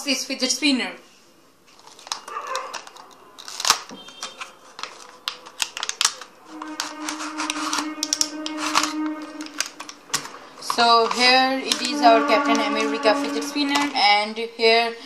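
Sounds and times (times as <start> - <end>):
card and plastic clicks and rustles: 1.7 - 14.0.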